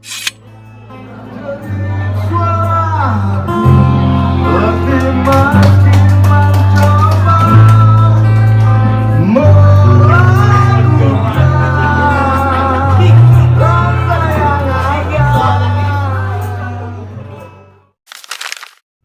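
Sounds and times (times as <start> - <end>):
held bass notes: 0.0 - 17.1.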